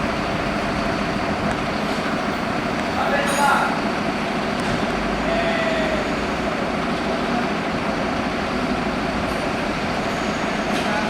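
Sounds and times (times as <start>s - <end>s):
fire engine rumbling: 0.0s - 11.0s
street traffic: 0.0s - 11.0s.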